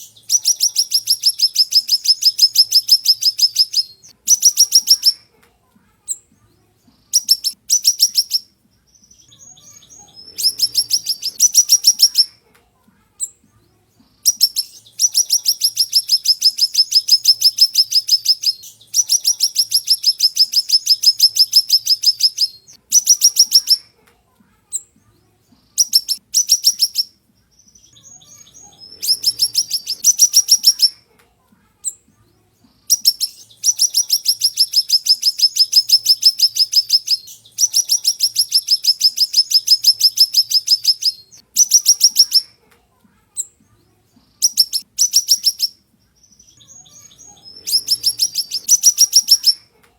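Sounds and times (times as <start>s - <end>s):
songbird singing rapid trills: 0.0s - 5.2s, 7.1s - 12.3s, 14.2s - 23.8s, 25.7s - 31.0s, 32.9s - 42.5s, 44.3s - 49.6s.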